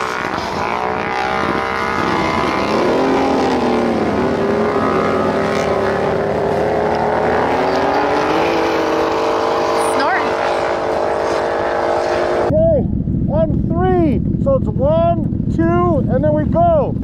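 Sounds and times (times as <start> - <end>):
engines revving: 0.0 - 17.0.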